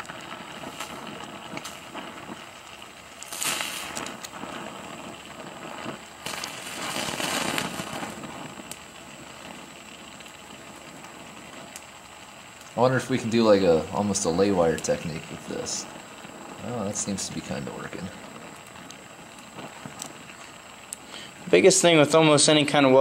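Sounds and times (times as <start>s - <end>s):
crackling and small pops: 0.0s - 23.0s
gas torch flame hissing: 0.0s - 23.0s.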